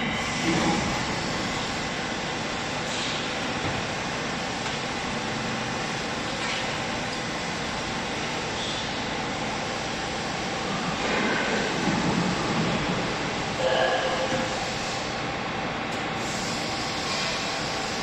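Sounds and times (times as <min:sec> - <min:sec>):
hydraulic power unit humming: 0:00.0 - 0:18.0.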